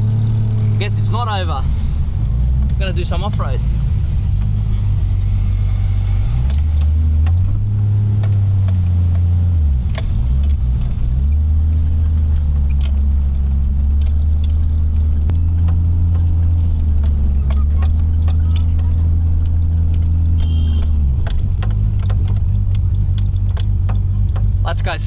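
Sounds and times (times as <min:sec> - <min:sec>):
car engine running at low speed: 0:00.0 - 0:25.0
sharp clicks and rattles: 0:00.8 - 0:25.0.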